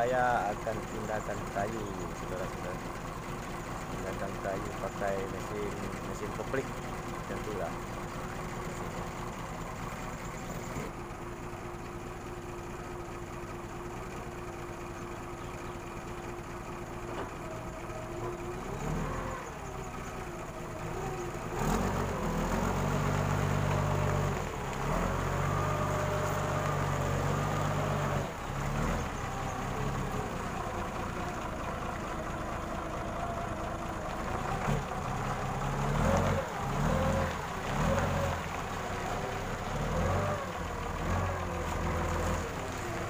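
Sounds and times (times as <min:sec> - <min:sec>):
forklift engine idling and revving: 0:00.0 - 0:43.0.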